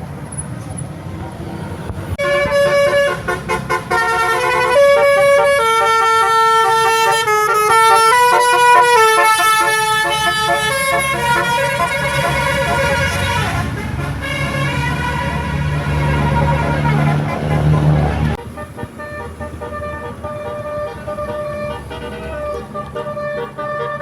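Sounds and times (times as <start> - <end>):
bus engine rumble: 0.0 - 24.0
traffic: 0.0 - 24.0
multi-tone bus horn tune: 2.1 - 24.0.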